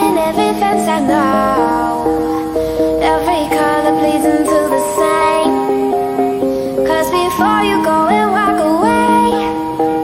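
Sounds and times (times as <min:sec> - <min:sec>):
bright light melody: 0:00.0 - 0:10.0.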